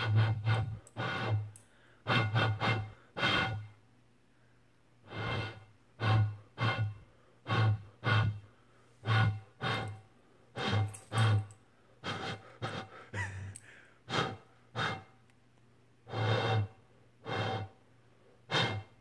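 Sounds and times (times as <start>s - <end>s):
person blowing breathy hisses: 0.0s - 3.8s, 5.0s - 15.1s, 16.1s - 17.8s, 18.4s - 19.0s.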